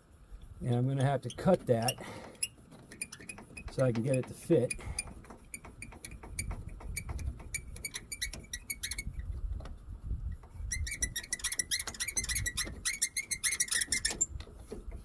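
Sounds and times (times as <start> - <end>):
tool clicking and squeaking: 0.6 - 9.7, 10.3 - 15.0.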